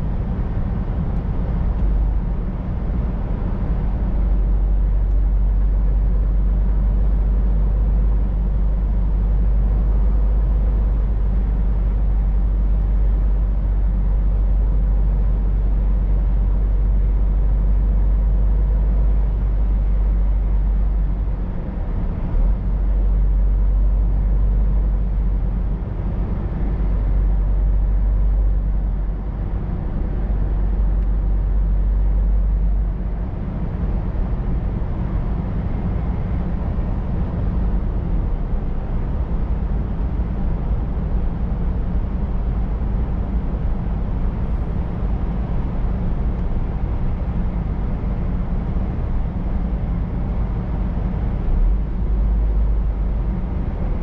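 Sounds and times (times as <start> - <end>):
road noise: 0.0 - 54.0
truck diesel engine droning: 0.0 - 54.0.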